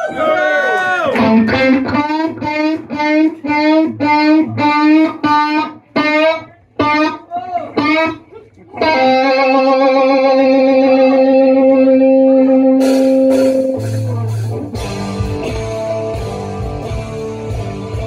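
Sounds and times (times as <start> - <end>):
rock band with electric guitar: 0.7 - 18.0.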